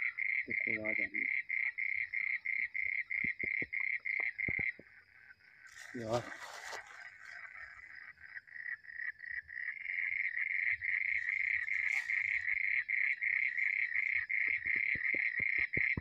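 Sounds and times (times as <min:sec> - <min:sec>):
frogs calling: 0:00.0 - 0:16.0.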